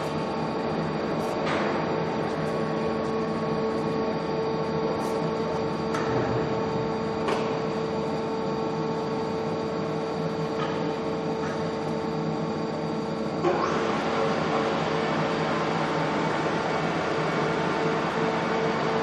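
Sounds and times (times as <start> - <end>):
machine hum with constant tone: 0.0 - 19.0
noisy machine whirring: 0.0 - 19.0.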